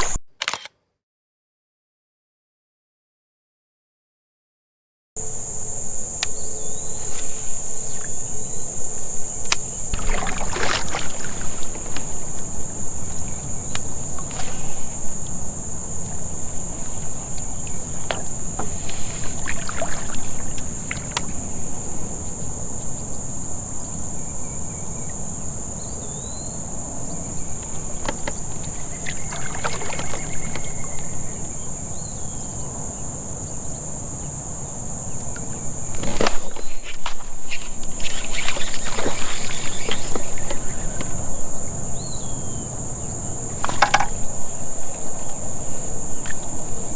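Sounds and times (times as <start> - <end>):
insect chorus drone: 5.2 - 46.9.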